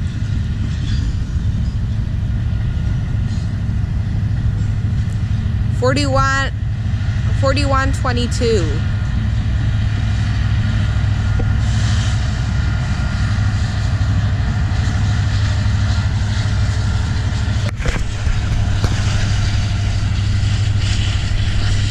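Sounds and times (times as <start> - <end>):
faint constant whine: 0.0 - 21.9
low engine rumble: 0.0 - 21.9.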